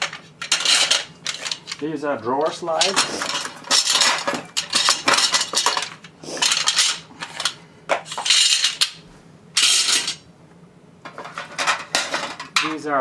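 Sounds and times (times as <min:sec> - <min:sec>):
metal parts clinking and scraping: 0:00.0 - 0:01.8, 0:02.4 - 0:09.0, 0:09.6 - 0:10.2, 0:11.1 - 0:12.8.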